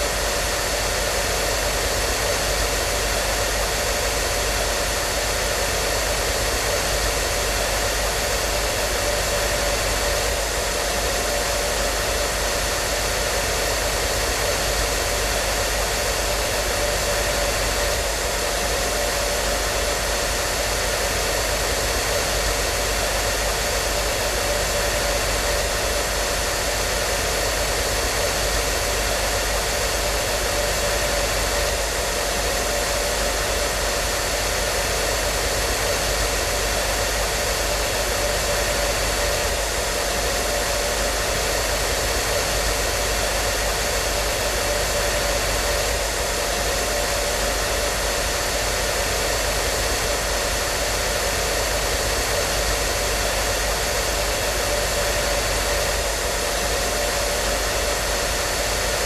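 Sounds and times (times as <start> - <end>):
hair dryer blowing air: 0.0 - 59.0.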